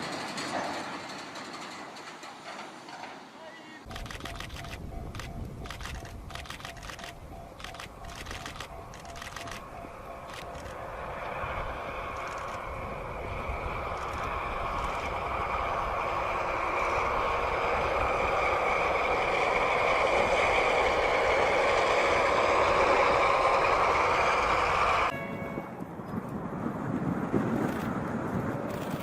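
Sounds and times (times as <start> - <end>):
heavy vehicle running: 0.0 - 25.1.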